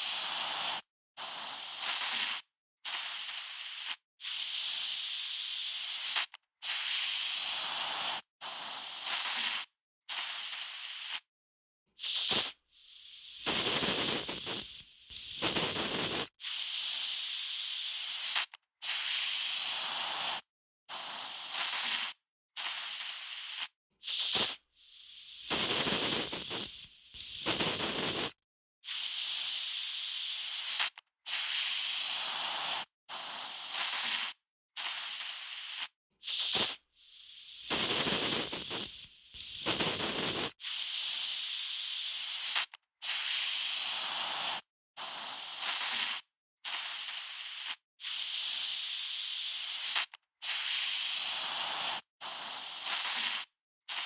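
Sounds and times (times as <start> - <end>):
aerosol spray can hissing: 0.0 - 11.2, 12.0 - 54.0.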